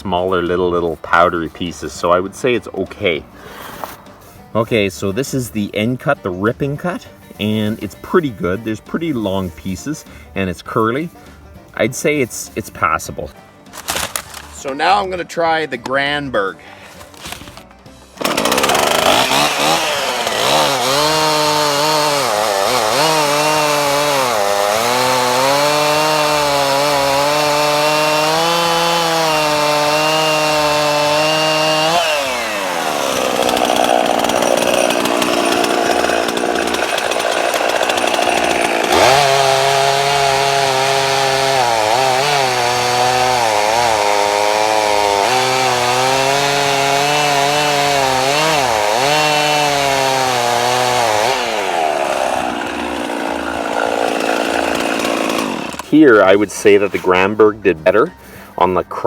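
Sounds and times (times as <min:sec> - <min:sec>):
chainsaw cutting wood: 0:00.0 - 0:05.9, 0:13.7 - 0:15.0, 0:16.8 - 0:57.4.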